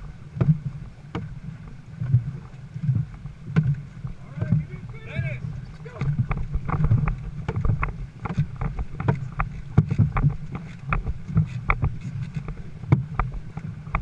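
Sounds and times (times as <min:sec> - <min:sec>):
paddles splashing in water: 0:00.0 - 0:14.0
wind on microphone: 0:00.0 - 0:14.0.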